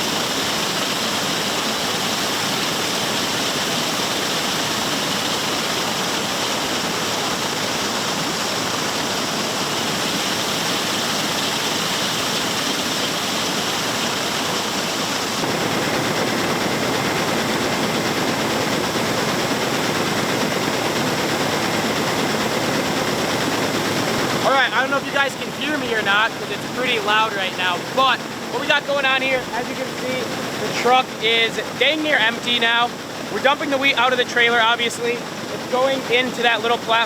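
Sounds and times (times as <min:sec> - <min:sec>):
grain augers running: 0:00.0 - 0:37.0.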